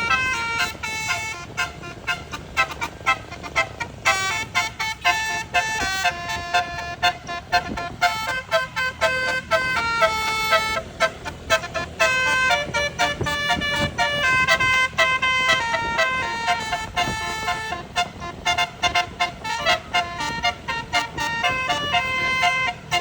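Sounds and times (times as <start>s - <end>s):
musical air horn blasts: 0.0s - 23.0s.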